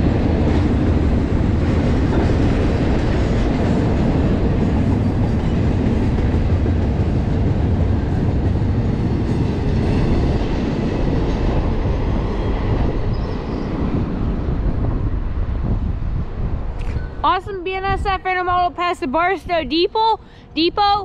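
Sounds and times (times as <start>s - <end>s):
freight train rumbling on rails: 0.0s - 18.8s.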